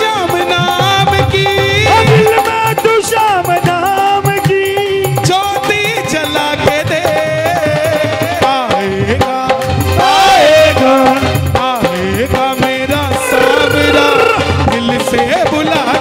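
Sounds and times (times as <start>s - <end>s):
accompanying instruments: 0.0s - 16.0s
hand drum percussion: 0.0s - 16.0s
man singing through a pa: 0.0s - 16.0s.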